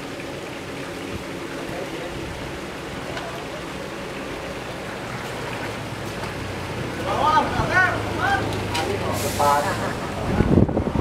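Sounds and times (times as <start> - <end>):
pond water splashing: 0.0 - 10.4.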